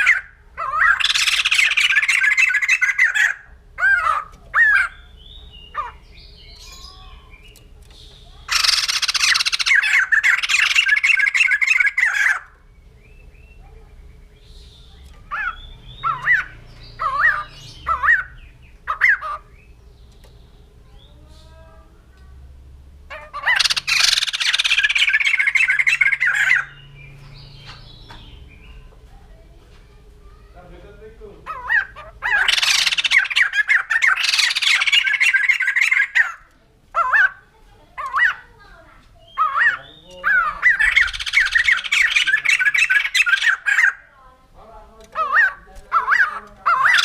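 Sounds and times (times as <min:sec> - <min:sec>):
laughingthrush calling: 0:00.0 - 0:07.5, 0:08.2 - 0:19.8, 0:23.1 - 0:28.9, 0:31.2 - 0:44.1, 0:45.1 - 0:47.0.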